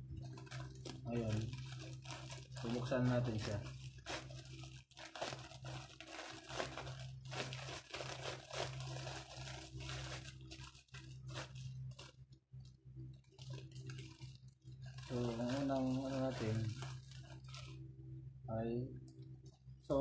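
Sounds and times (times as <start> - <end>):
plastic packaging crinkling: 0.0 - 17.9.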